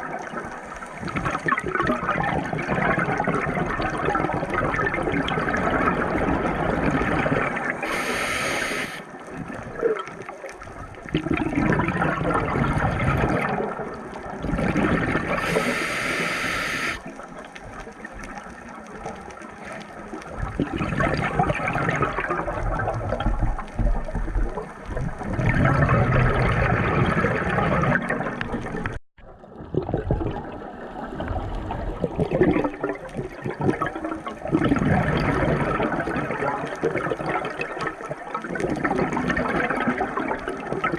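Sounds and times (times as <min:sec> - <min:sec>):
water sloshing and gurgling: 0:00.0 - 0:16.1, 0:17.0 - 0:40.9.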